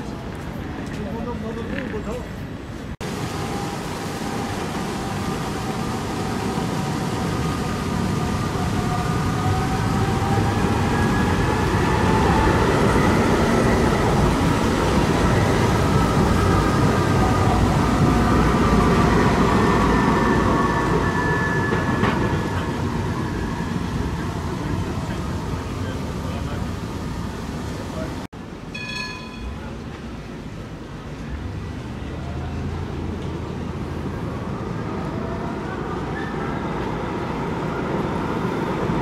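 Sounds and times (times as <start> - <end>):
tram passing: 0.0 - 39.0.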